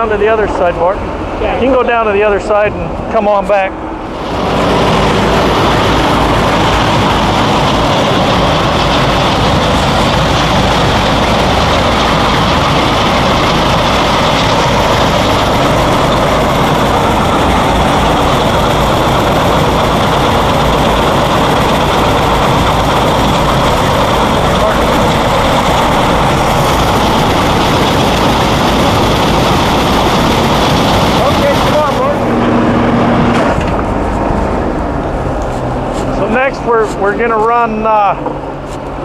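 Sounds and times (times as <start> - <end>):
engine and pump drone: 0.0 - 39.0.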